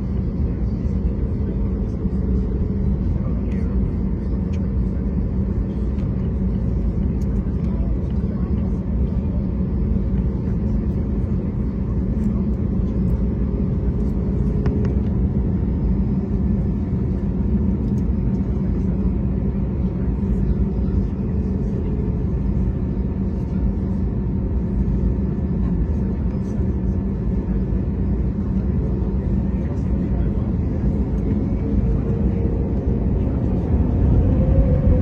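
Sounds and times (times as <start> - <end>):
engine rumbling: 0.0 - 35.0.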